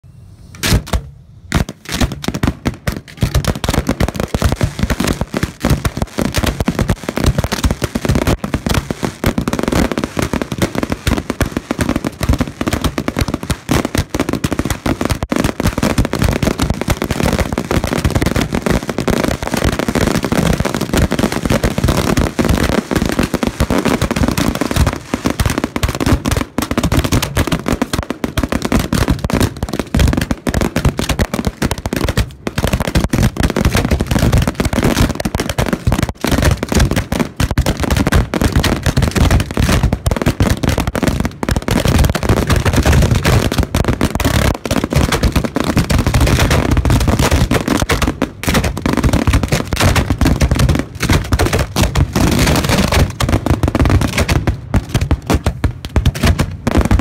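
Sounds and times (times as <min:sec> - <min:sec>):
fireworks banging and crackling: 0:00.5 - 0:57.0.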